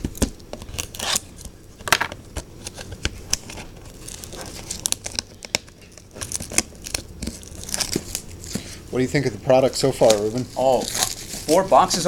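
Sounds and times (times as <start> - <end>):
packaging tearing and crinkling: 0.0 - 1.5, 2.6 - 8.6, 9.8 - 12.0.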